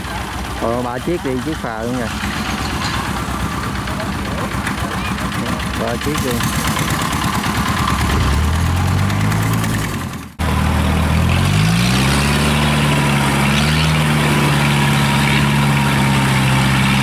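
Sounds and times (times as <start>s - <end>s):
engine revving: 0.0s - 17.0s
tracked carrier engine revving: 0.0s - 17.0s.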